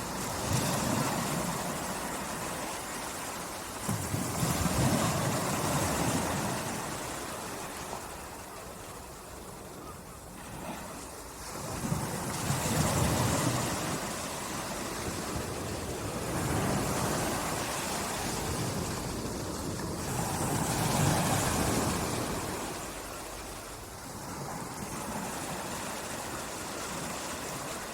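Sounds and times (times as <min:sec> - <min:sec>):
light breeze: 0:00.0 - 0:27.9
small waves lapping on a beach: 0:00.0 - 0:27.9.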